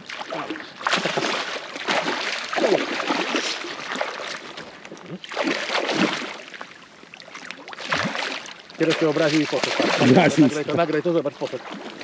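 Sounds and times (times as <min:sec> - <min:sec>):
water splashing and rushing: 0:00.0 - 0:12.0.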